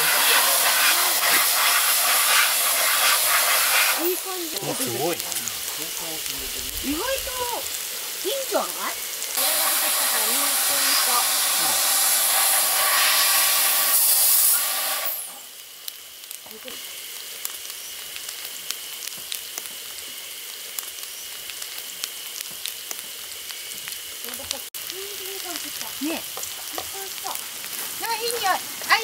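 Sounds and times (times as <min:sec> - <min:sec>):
fat crackling and spitting: 0:00.0 - 0:29.0
steaks sizzling on a griddle: 0:00.0 - 0:29.0.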